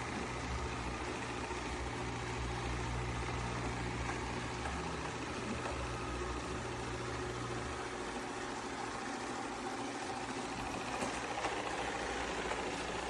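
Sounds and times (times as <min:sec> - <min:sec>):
robot vacuum running: 0:00.0 - 0:13.0.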